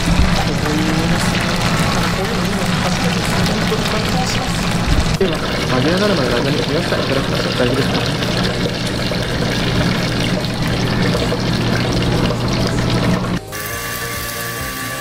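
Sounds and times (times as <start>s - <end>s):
oil bubbling in deep fryer: 0.0s - 15.0s.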